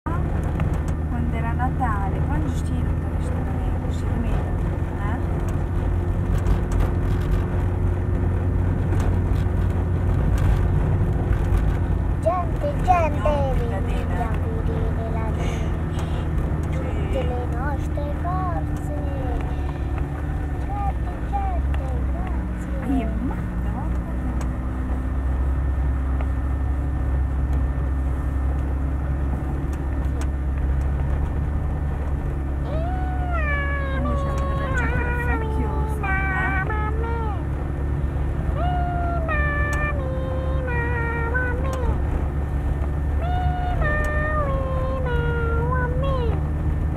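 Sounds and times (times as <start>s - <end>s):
car engine and tyre rumble: 0.0s - 46.9s.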